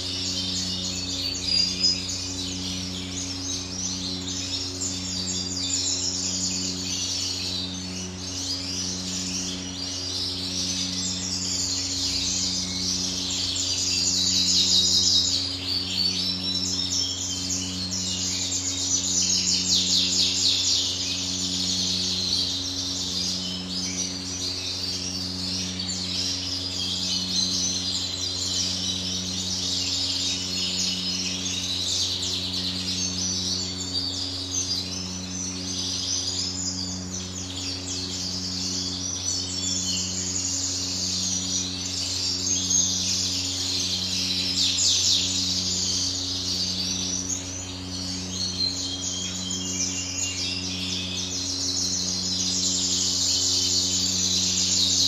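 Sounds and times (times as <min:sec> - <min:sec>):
pulsing low machine hum: 0:00.0 - 0:55.0
songbirds chirping and singing: 0:00.0 - 0:55.0.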